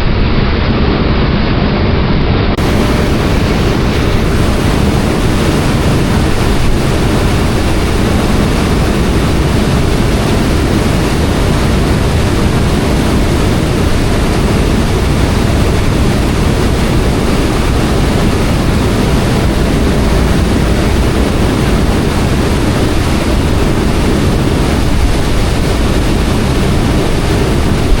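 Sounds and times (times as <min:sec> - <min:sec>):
boat engine rumble: 0:00.0 - 0:28.0
water rushing along hull: 0:02.6 - 0:28.0.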